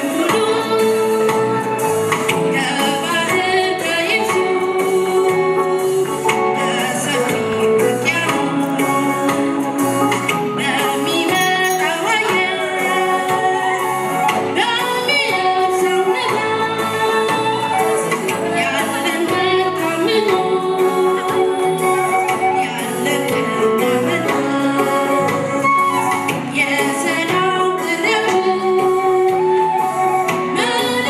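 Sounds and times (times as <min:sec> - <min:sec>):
band with drums keyboard and bass: 0:00.0 - 0:31.0
woman singing: 0:00.0 - 0:31.0.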